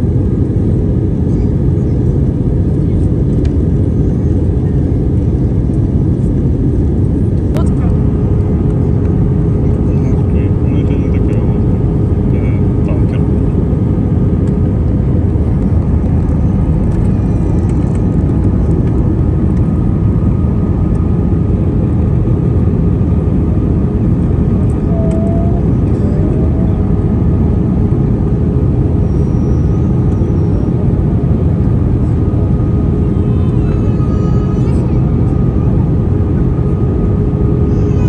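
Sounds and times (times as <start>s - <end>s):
airplane cabin engine rumble: 0.0s - 38.0s
constant low hum: 0.0s - 38.0s.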